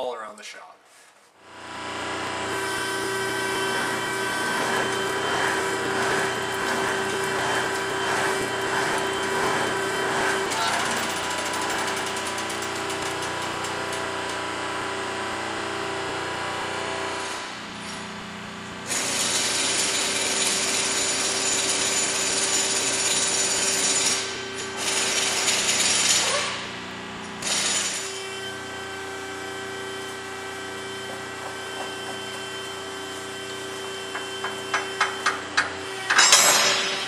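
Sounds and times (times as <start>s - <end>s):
steady machine hum: 1.4s - 19.0s, 19.7s - 37.0s.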